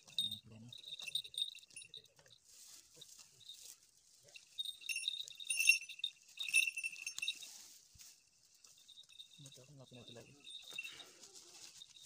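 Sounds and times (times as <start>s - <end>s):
small metal bell jingling: 0.0s - 12.0s.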